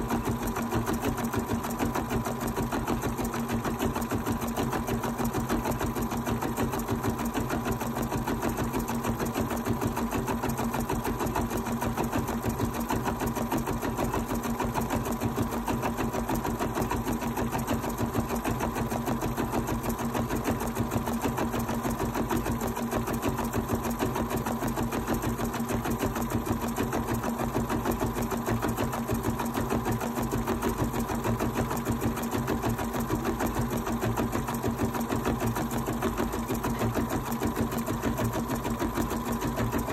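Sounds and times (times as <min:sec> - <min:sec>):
sewing machine needle strokes: 0:00.1 - 0:39.9.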